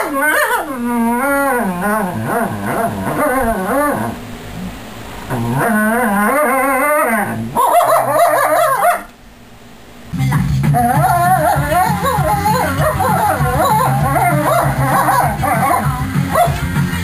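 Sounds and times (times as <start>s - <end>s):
dog whining and howling: 0.0s - 4.7s, 5.3s - 9.1s, 10.8s - 16.6s.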